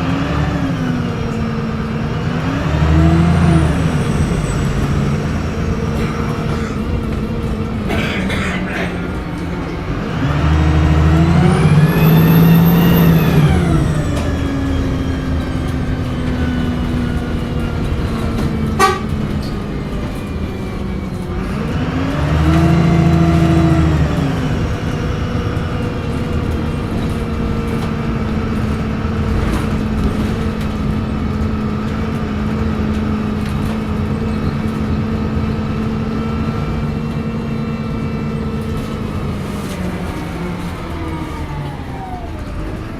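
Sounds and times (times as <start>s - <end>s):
bus engine under load: 0.0s - 42.9s
turbocharger whining: 0.0s - 42.9s.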